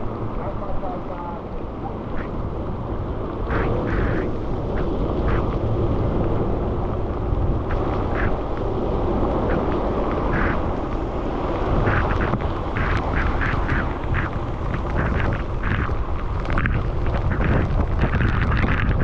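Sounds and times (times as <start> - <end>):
road noise: 0.0 - 19.0
wind noise on microphone: 0.0 - 19.0
hissy splashes: 3.3 - 19.0.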